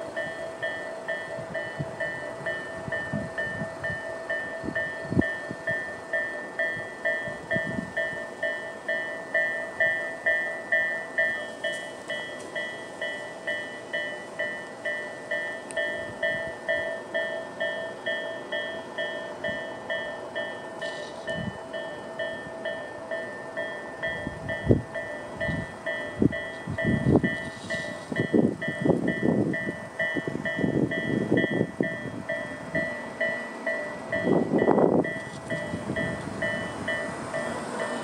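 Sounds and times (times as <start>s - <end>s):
level crossing warning bells: 0.0s - 38.0s.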